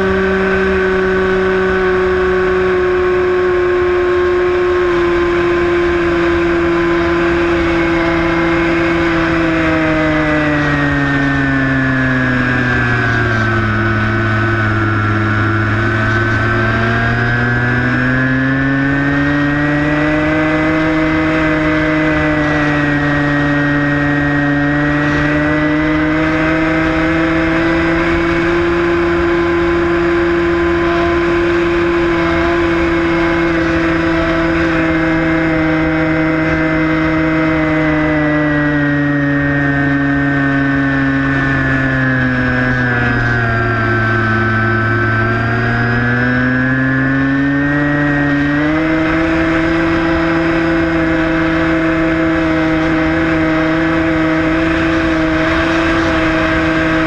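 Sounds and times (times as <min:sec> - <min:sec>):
electric motor and propeller: 0:00.0 - 0:57.0.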